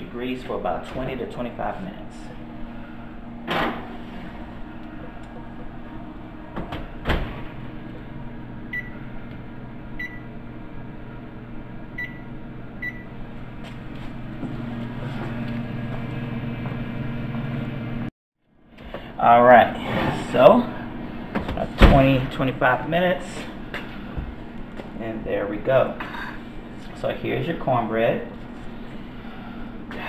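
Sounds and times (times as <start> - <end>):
low hum: 0.0 - 18.1, 18.9 - 30.0.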